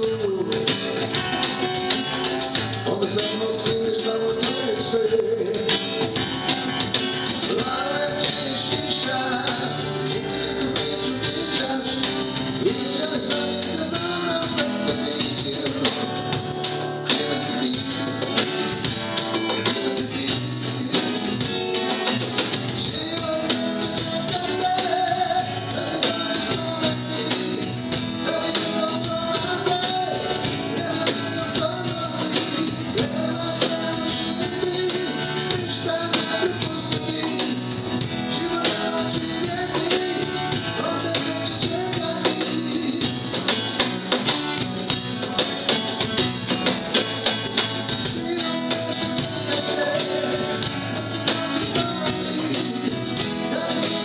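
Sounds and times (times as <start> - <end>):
man singing into microphone: 0.0 - 1.2, 2.7 - 6.5, 7.4 - 43.8, 47.8 - 54.0
backing track with guitar and drums: 0.0 - 54.0.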